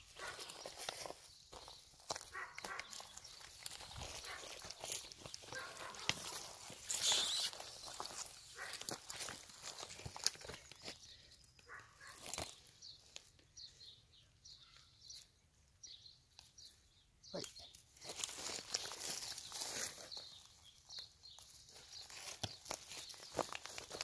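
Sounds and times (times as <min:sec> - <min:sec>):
light footsteps in dry leaves: 0:00.0 - 0:13.4, 0:17.4 - 0:24.0
rustling in grass and leaves: 0:00.0 - 0:13.4, 0:17.4 - 0:24.0.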